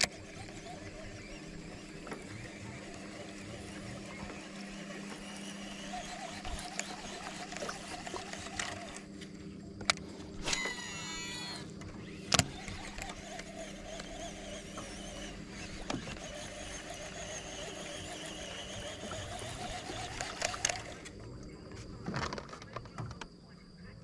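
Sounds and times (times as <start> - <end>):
fishing reel clicks: 0.0 - 9.1, 9.8 - 21.2
fishing reel gear whirring: 0.0 - 21.5.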